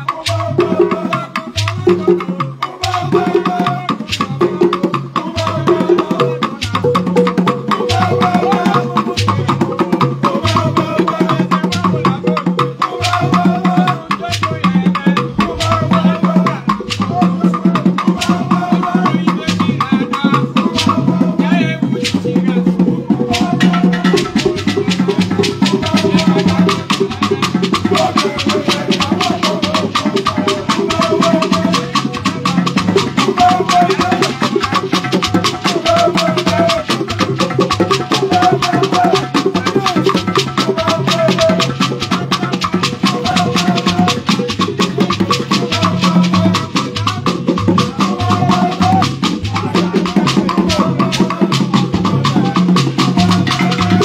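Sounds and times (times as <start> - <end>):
hand drums: 0.0 - 54.0
shakers: 0.0 - 54.0.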